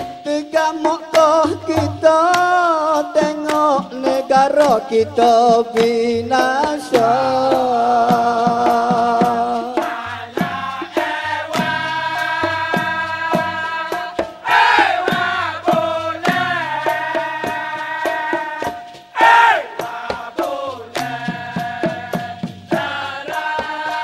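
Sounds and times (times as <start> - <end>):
man singing into a microphone: 0.0 - 14.3, 15.3 - 24.0
male chorus holding long notes: 0.0 - 24.0
sharp percussion strikes: 0.0 - 24.0.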